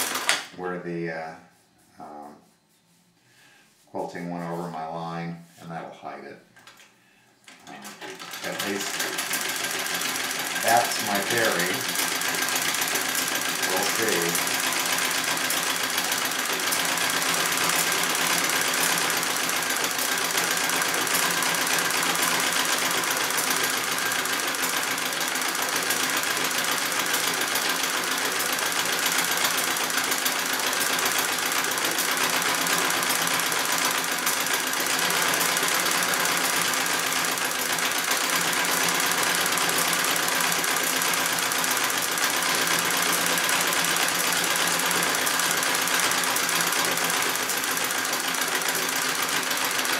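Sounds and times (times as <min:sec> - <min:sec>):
treadle sewing machine stitching: 0:00.0 - 0:00.5, 0:07.6 - 0:49.9.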